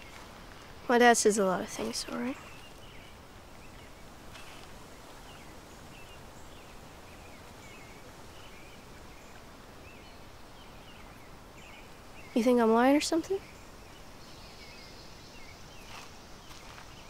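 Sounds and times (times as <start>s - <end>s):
soft background hiss: 0.0s - 17.0s.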